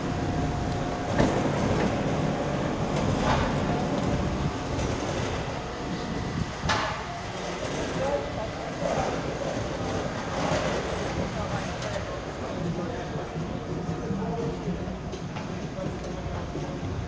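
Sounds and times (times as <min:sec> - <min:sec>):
rumbling pit garage noise: 0:00.0 - 0:17.0.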